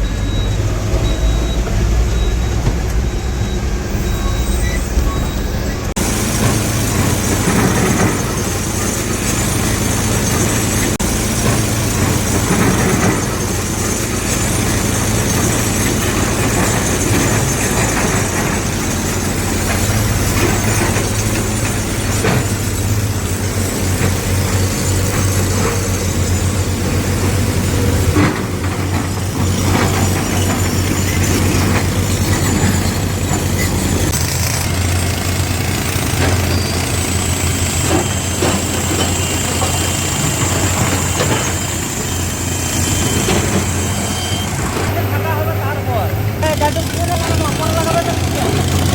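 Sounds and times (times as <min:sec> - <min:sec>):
diesel engine of heavy machinery: 0:00.0 - 0:48.9.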